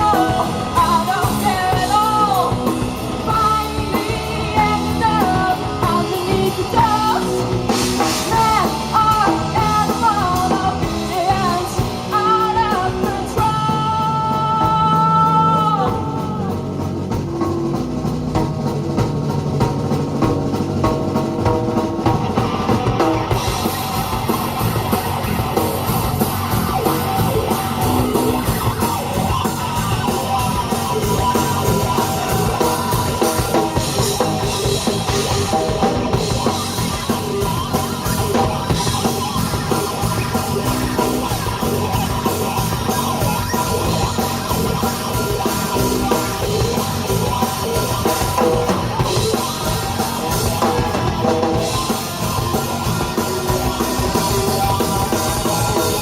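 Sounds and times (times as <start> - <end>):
rock music: 0.0 - 56.0.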